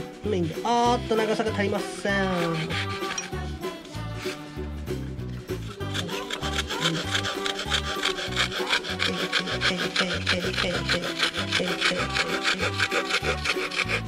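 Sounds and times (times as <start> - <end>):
background music: 0.0 - 14.0
saw cutting wood: 1.2 - 4.4, 5.6 - 14.0.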